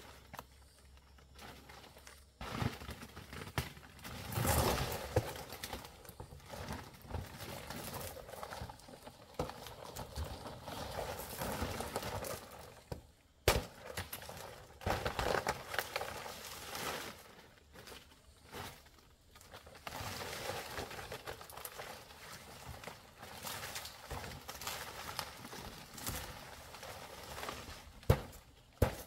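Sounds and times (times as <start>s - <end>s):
rustling and crackling: 0.0s - 29.0s.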